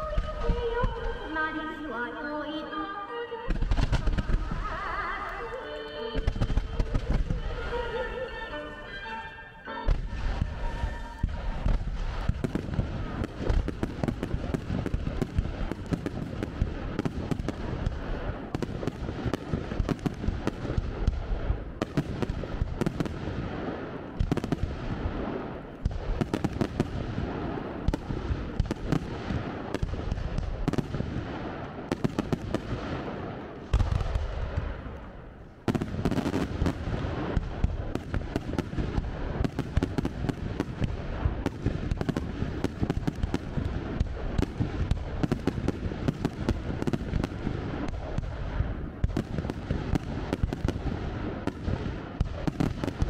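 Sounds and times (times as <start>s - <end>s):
fireworks popping and banging: 0.0s - 1.8s, 3.5s - 9.0s, 9.8s - 53.0s.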